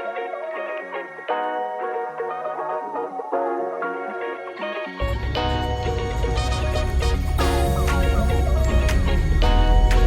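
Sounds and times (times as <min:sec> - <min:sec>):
gentle plucked instrumental music: 0:00.0 - 0:10.0.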